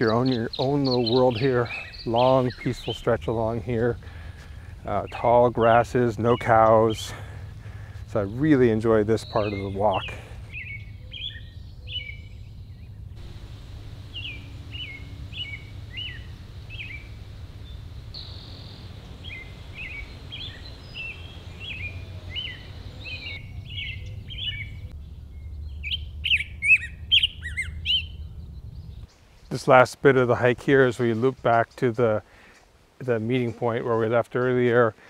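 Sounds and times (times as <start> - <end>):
low outdoor rumble: 0.0 - 29.2
songbirds chirping: 0.0 - 35.0.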